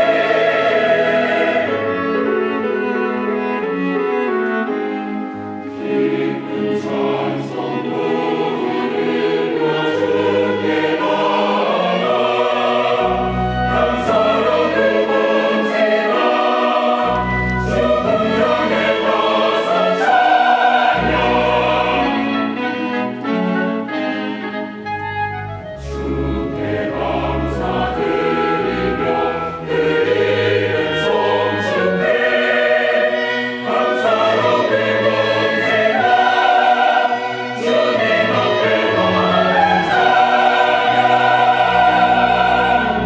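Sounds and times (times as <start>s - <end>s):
choir singing with accompaniment: 0.0s - 43.0s.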